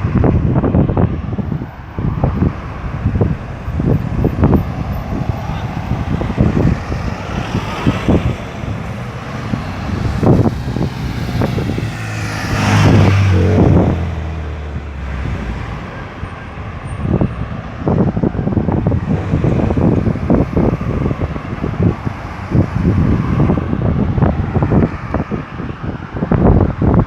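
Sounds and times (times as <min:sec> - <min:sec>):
road traffic: 0:00.0 - 0:27.0
vehicle passing close by: 0:00.0 - 0:27.0.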